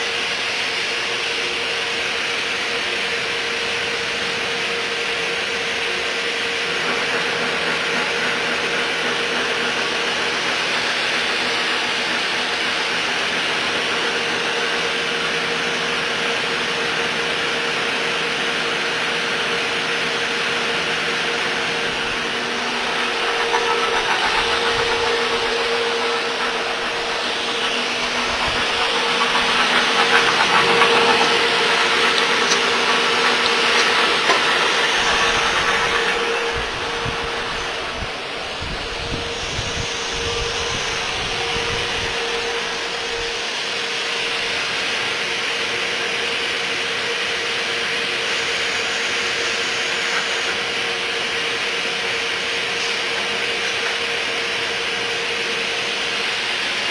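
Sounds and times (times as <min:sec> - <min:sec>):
drilling machine whirring: 0:00.0 - 0:56.9.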